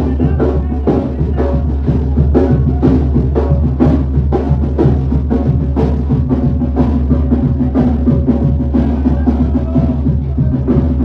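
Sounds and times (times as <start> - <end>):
wind band playing dance tune: 0.0 - 11.0.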